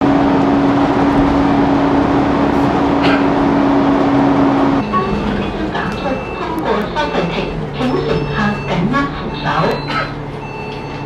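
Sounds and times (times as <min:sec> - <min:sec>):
engine hum: 0:00.0 - 0:11.0
road traffic: 0:00.0 - 0:11.0.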